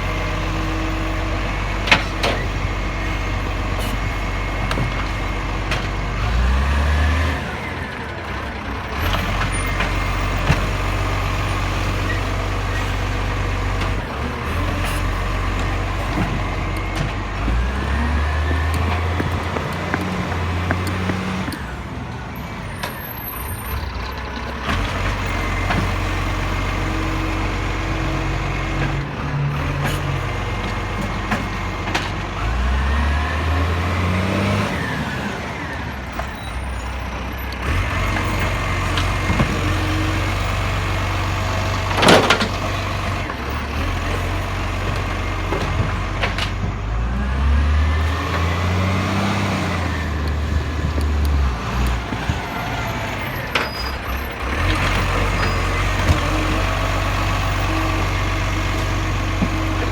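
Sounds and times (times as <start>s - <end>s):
garbage truck diesel engine revving: 0.0s - 59.9s.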